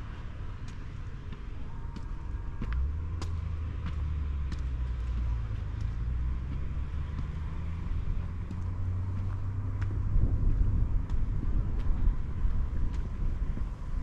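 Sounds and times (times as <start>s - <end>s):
distant motor vehicle engine rumble: 0.0s - 14.0s.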